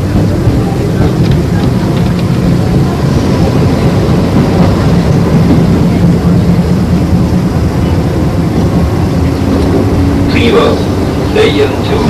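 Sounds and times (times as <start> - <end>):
train motors humming: 0.0 - 12.0
train wheels rumbling on rails: 0.0 - 12.0.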